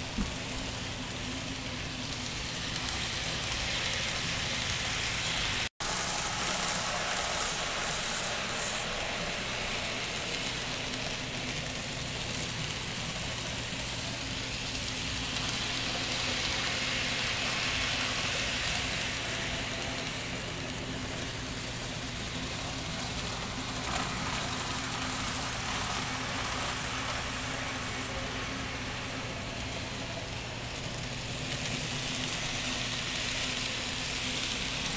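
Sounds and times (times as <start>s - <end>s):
model train whirring and rattling: 0.0s - 34.9s.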